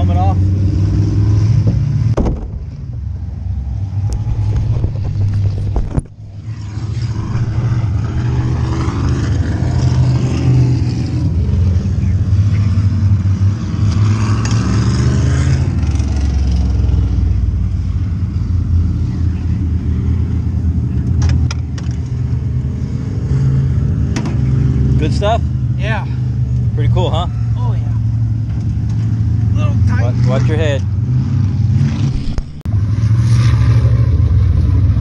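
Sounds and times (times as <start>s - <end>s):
race car engine running: 0.0s - 35.0s
low engine rumble: 1.4s - 13.9s, 15.6s - 35.0s.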